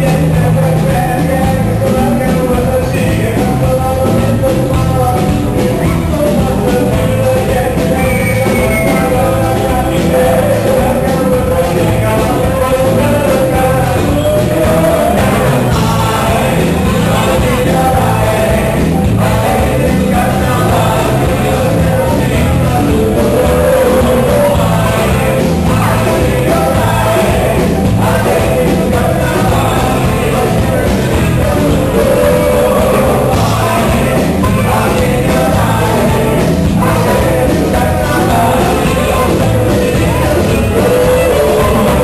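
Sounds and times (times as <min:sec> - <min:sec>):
salsa music with singer: 0:00.0 - 0:42.0.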